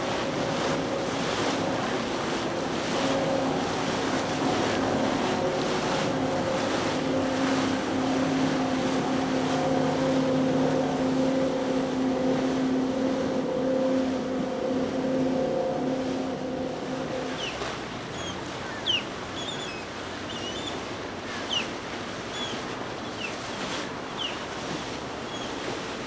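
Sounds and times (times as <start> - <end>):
boat engine drone: 0.0 - 26.0
wake and spray rushing: 0.0 - 26.0.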